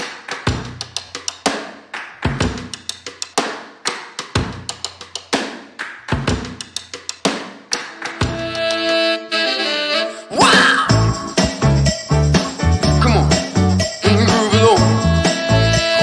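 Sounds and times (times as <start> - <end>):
drum kit beat: 0.0 - 9.8, 10.4 - 16.0.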